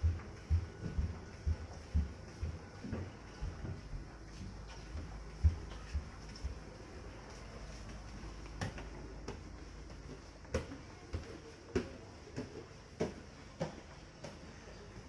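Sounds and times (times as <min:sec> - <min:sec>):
footsteps climbing stairs: 0:00.0 - 0:15.0.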